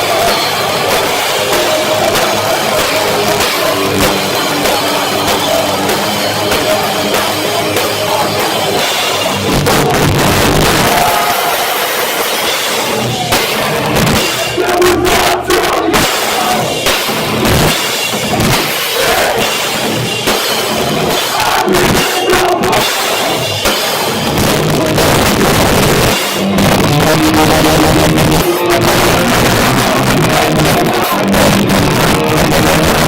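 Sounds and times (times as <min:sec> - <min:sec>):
distorted electric guitars: 0:00.0 - 0:33.0
pounding drum kit: 0:00.0 - 0:33.0.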